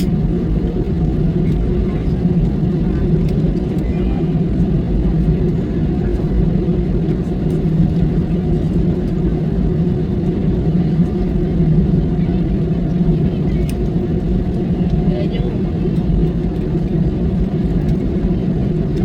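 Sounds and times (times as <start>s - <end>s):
vehicle rumble inside cabin: 0.0s - 19.0s.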